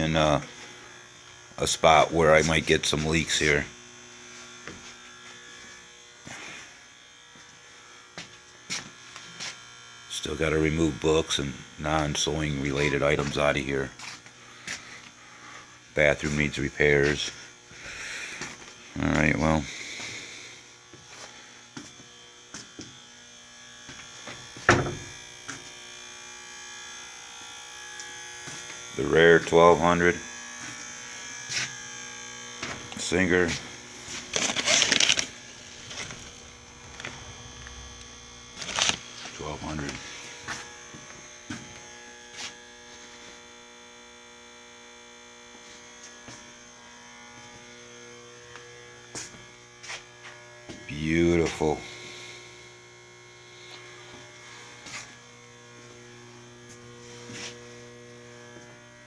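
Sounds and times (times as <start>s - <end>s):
steady electrical buzz: 0.0s - 59.0s.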